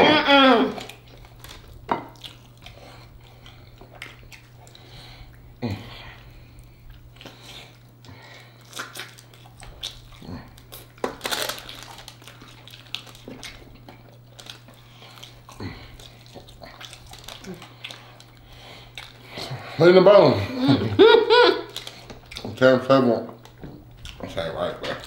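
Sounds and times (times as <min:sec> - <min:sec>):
steady low hum: 0:00.0 - 0:25.0
chewing and sucking on chicken wings: 0:00.8 - 0:19.8, 0:21.6 - 0:22.7, 0:23.4 - 0:25.0.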